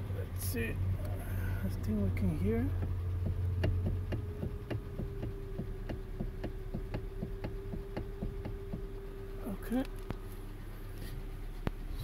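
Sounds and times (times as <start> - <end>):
steady hum: 0.0 - 12.0
power steering clicking: 0.2 - 12.0.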